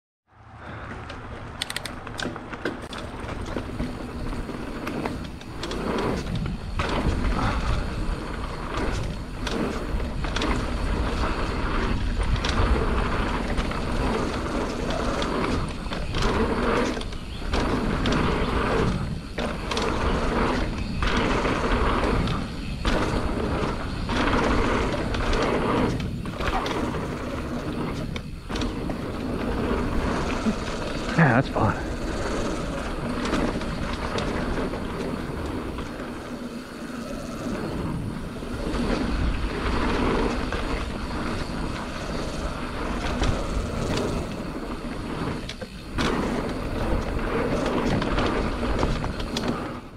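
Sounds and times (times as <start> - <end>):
bike rattling over bumps: 0.6 - 49.9
tyres rolling over dirt and gravel: 0.6 - 49.9.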